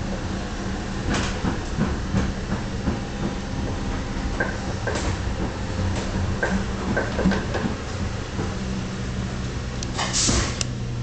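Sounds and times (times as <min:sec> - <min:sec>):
tram rumbling along track: 0:00.0 - 0:11.0
wheels clicking over rail joints: 0:01.0 - 0:10.8.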